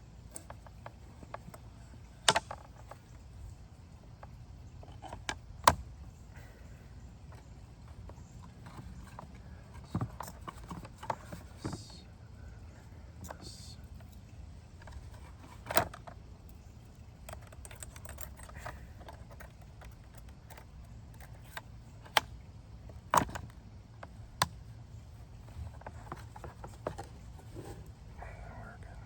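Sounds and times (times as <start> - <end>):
light clicks and rattles: 0.0 - 29.0.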